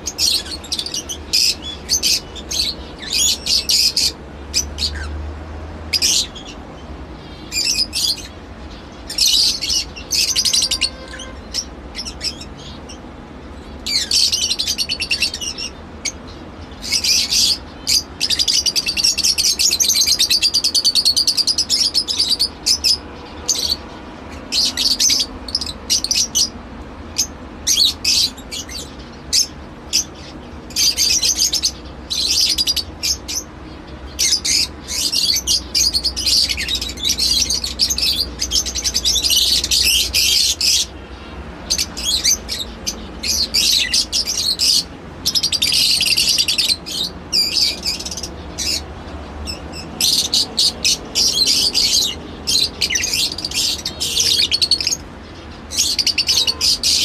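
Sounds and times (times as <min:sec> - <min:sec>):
lovebirds chirping shrilly: 0:00.0 - 0:05.2, 0:05.8 - 0:57.0.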